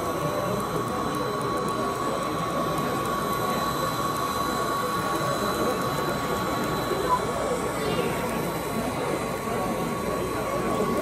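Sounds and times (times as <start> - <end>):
chatter of many people: 0.0 - 11.0
steady high hum: 0.0 - 11.0.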